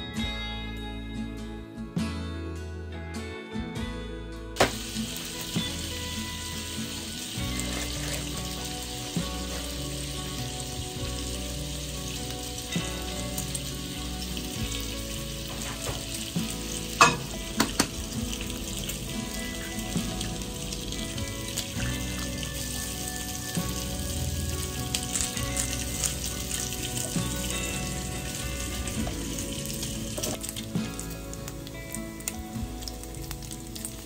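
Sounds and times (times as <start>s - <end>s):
acoustic guitar music: 0.0s - 34.0s
steady hiss: 4.6s - 34.0s.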